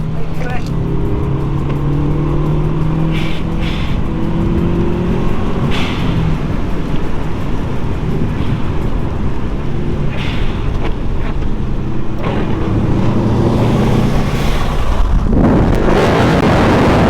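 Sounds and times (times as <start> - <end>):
car engine running: 0.0 - 17.0
road and wind noise: 0.0 - 17.0.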